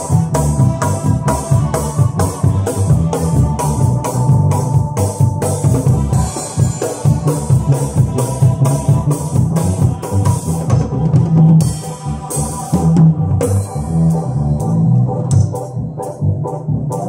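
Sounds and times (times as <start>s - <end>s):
drum kit beat with cymbals: 0.0s - 17.0s
keyboard organ chords: 0.0s - 17.0s.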